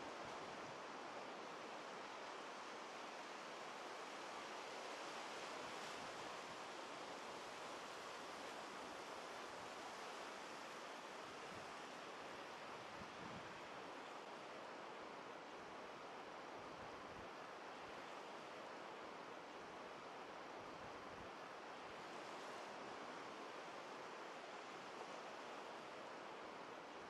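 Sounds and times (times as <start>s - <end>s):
waves washing on sandy beach: 0.0s - 27.0s.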